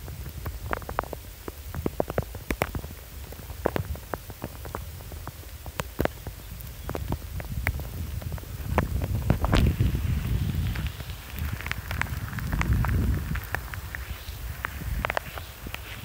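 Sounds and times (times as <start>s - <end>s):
raindrops ticking: 0.0s - 16.0s
wind on microphone: 0.0s - 16.0s.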